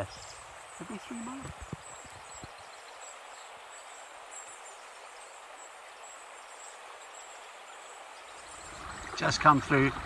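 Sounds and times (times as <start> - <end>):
soft steady hiss: 0.0 - 10.0.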